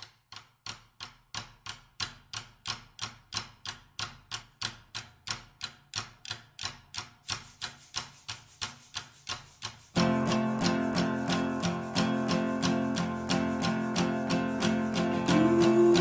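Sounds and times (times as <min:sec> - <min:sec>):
dry percussive clicks: 0:00.0 - 0:16.0.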